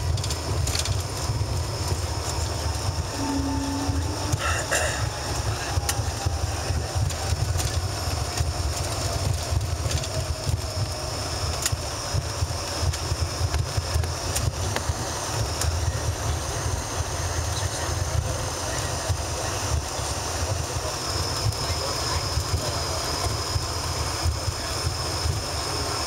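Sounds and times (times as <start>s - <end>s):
aircraft cabin rumble on runway: 0.0s - 26.0s.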